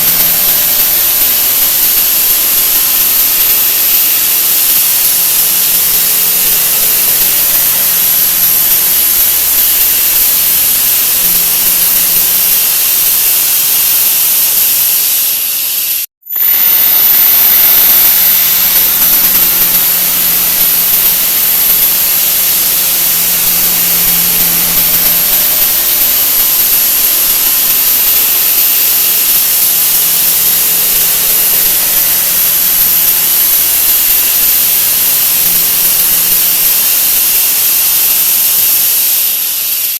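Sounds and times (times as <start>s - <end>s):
sped-up wah wah effect hiss: 0.0s - 16.1s, 17.2s - 39.9s.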